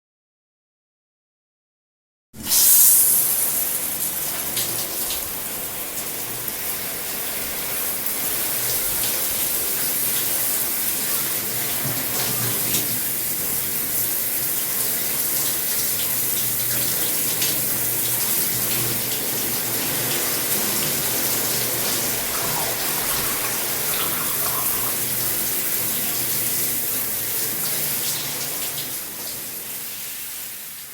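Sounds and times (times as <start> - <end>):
shower water spraying: 2.4 - 30.9.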